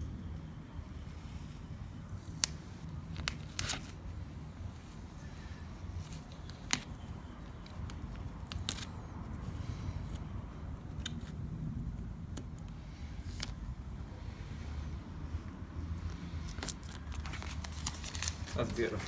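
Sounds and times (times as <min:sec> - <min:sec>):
tape peeling crackles: 0:01.1 - 0:13.7, 0:16.0 - 0:19.0.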